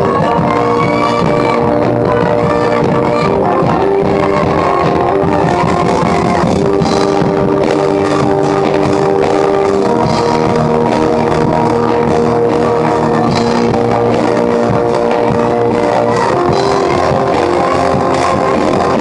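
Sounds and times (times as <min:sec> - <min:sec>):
band playing rock instrumental: 0:00.0 - 0:19.0.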